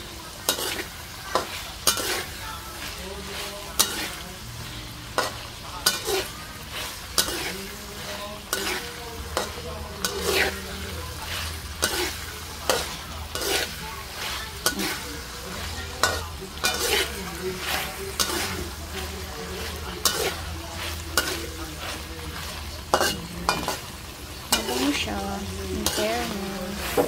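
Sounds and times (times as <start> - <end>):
food sizzling: 0.0 - 27.0
metal spatula scraping wok: 0.0 - 27.0.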